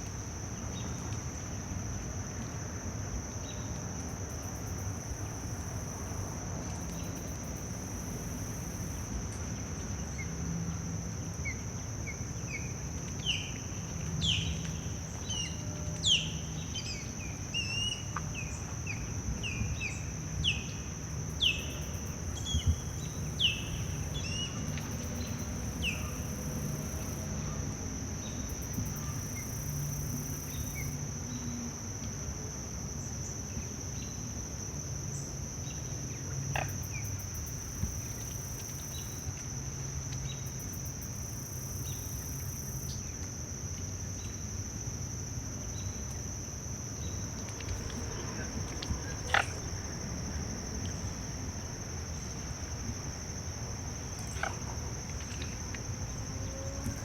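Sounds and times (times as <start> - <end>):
crickets trilling: 0.1 - 57.0.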